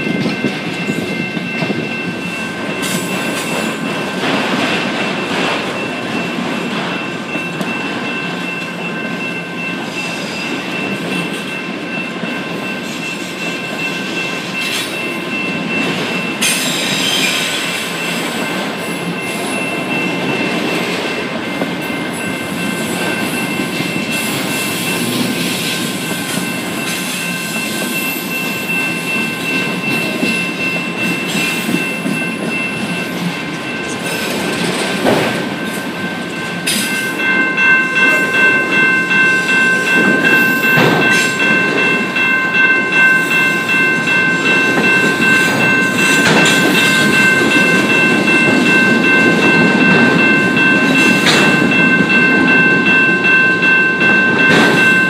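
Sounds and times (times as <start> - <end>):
train wheels rumbling and rattling: 0.0 - 55.0.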